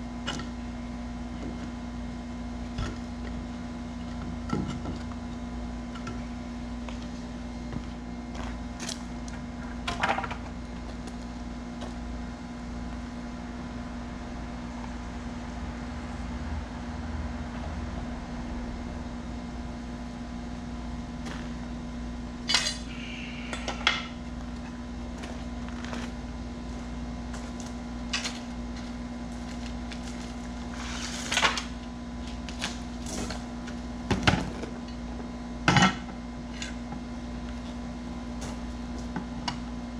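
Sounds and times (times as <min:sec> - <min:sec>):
steady background hum: 0:00.0 - 0:39.9.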